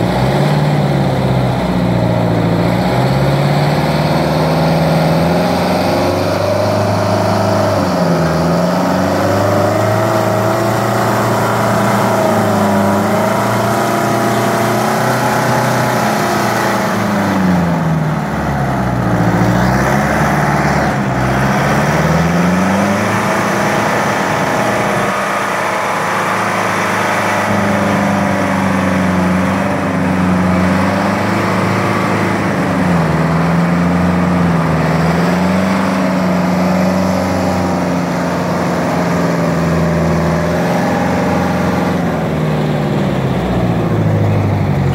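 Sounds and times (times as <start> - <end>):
wheel loader diesel engine: 0.0 - 44.9.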